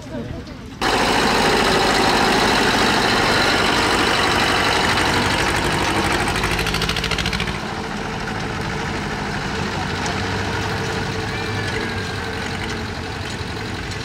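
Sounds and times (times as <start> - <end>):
tractor engine running: 0.6 - 14.0.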